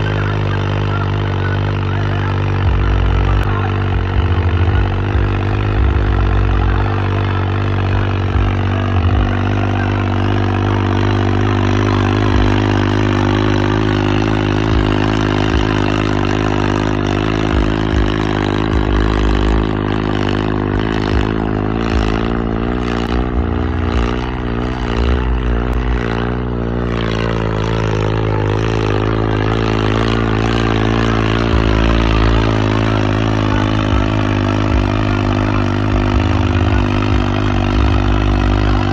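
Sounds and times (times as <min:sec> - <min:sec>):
diesel tractor engine running hard: 0:00.0 - 0:38.9.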